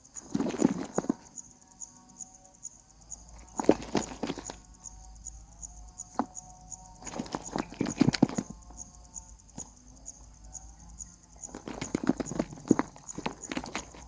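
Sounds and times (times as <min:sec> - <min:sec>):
nestlings scratching and scuffling: 0:00.1 - 0:01.4, 0:03.2 - 0:05.3, 0:06.0 - 0:14.0.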